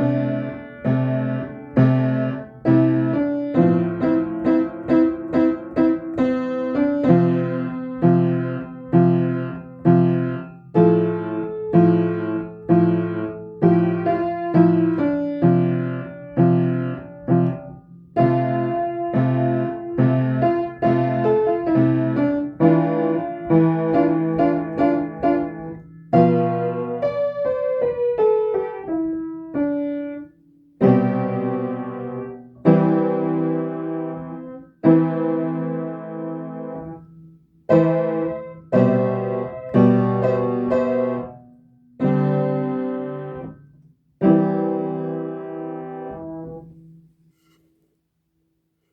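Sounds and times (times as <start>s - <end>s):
piano playing chords: 0.0s - 43.6s, 44.2s - 46.8s.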